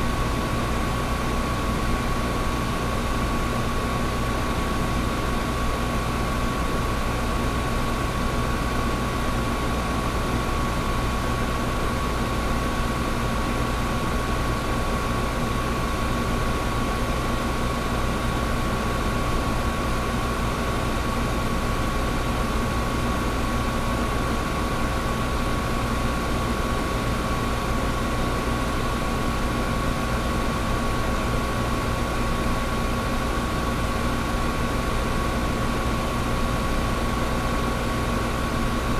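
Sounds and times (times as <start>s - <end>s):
air conditioner fan blowing: 0.0s - 38.9s.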